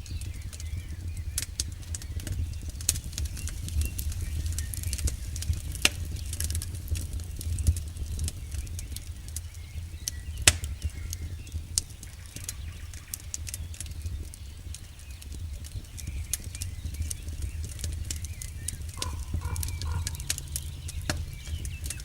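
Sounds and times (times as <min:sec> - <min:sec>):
campfire crackling and popping: 0:00.0 - 0:22.0
steady low rumble: 0:00.0 - 0:22.0.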